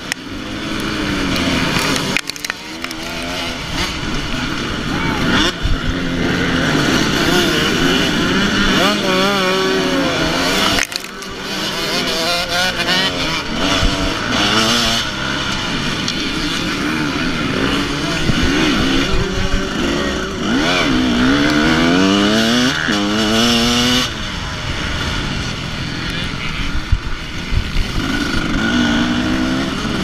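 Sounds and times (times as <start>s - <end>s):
dirt bike engine revving: 0.0s - 30.0s
other motorcycles running: 0.0s - 30.0s.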